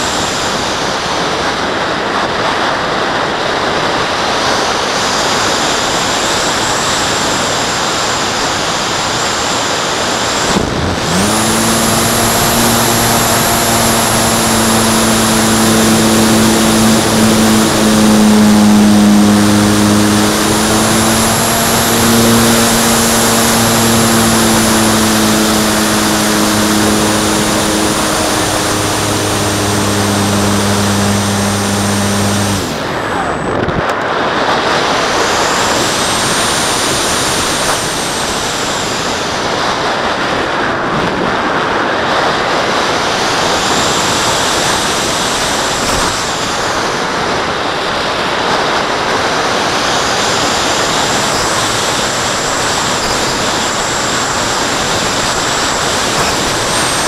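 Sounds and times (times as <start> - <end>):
airflow and wind rushing: 0.0 - 57.0
propeller motor humming: 3.5 - 40.0, 42.0 - 57.0.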